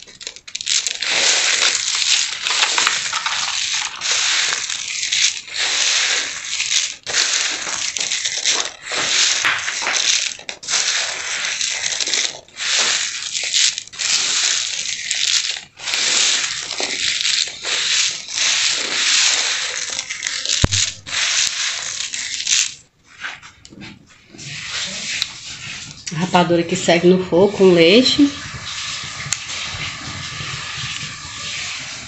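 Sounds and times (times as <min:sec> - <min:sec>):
peanut skins crackling: 0:00.0 - 0:22.9, 0:27.6 - 0:32.0.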